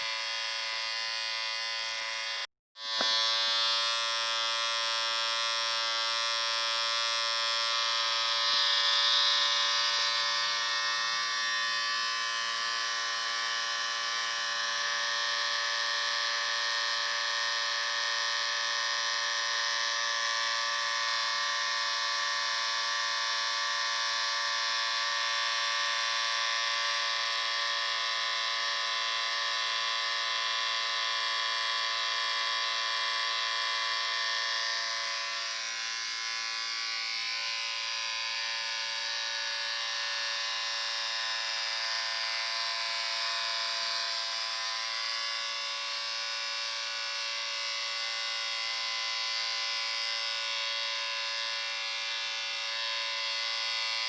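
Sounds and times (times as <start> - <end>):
electric shaver buzzing: 0.0 - 54.0.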